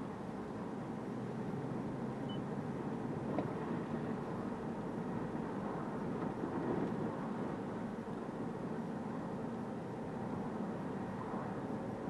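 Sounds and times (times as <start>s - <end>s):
tyre road noise: 0.0s - 12.0s.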